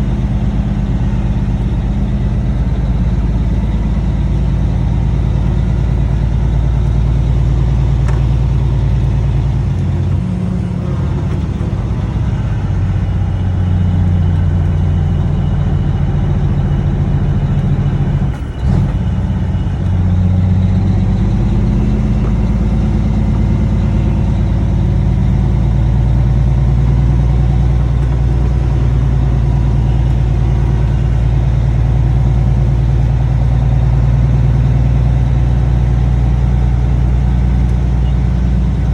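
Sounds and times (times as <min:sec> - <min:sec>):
loud deep diesel exhaust: 0:00.0 - 0:38.9.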